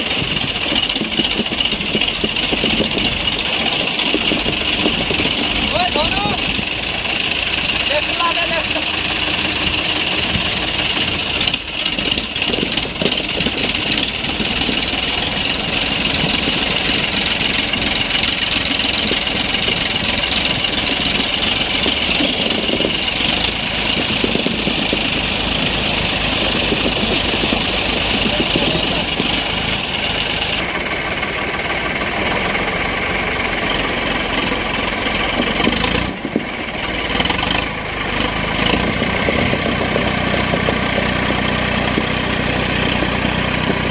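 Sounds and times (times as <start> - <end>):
diesel tractor engines running: 0.0 - 43.9.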